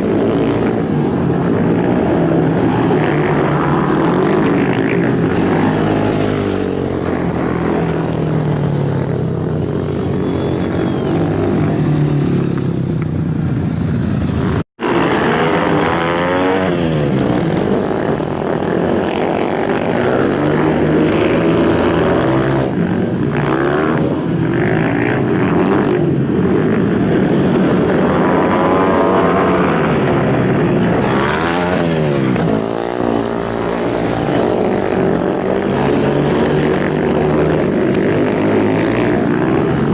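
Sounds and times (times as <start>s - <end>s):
racing motorcycles passing: 0.0s - 39.9s.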